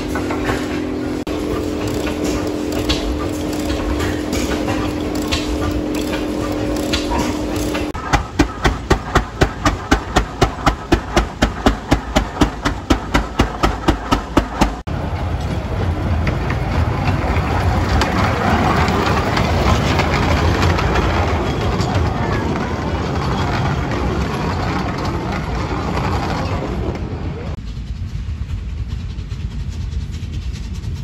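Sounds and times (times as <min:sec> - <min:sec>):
miniature steam train rumbling: 0:00.0 - 0:31.0.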